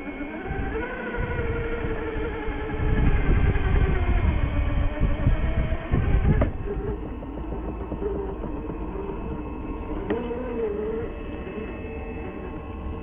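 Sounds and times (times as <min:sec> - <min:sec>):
toy car electric motor whining: 0:00.0 - 0:13.0
heavy low rumble: 0:01.2 - 0:13.0.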